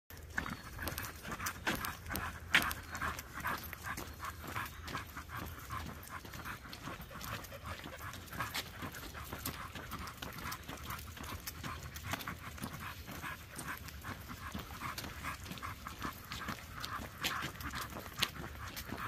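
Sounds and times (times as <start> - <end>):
dog panting: 0.1 - 19.0
footsteps on paved path: 0.1 - 19.0.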